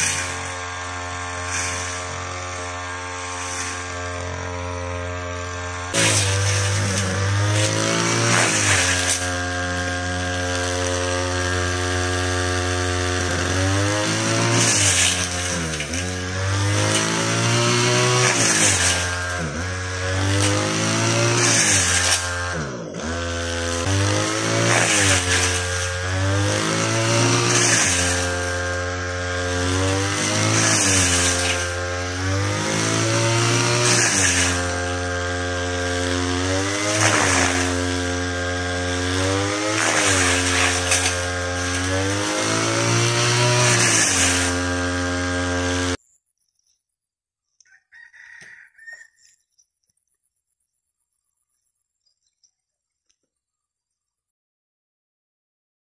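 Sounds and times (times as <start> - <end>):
brush cutter engine running: 0.0 - 46.1.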